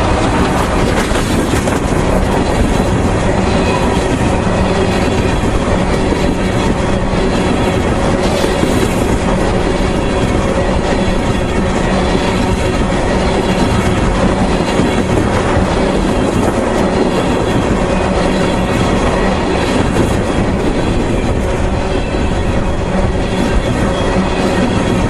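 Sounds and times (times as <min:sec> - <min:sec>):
clickety-clack of rail joints: 0:00.0 - 0:25.0
freight train wheels rumbling: 0:00.0 - 0:25.0.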